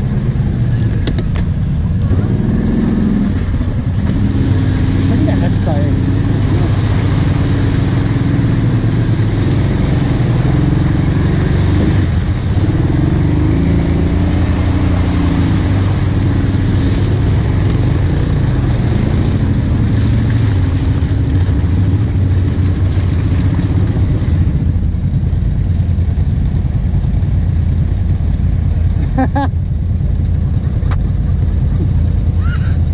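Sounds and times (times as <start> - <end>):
atv engine pulling at low speed: 0.0 - 32.9.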